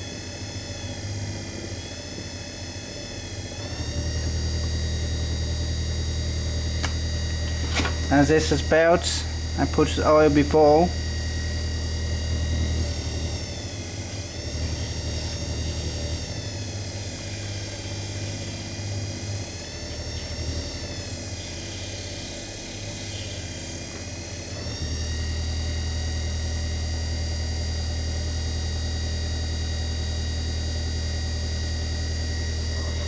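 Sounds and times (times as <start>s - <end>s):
electric motor hum and whine: 0.0s - 33.0s.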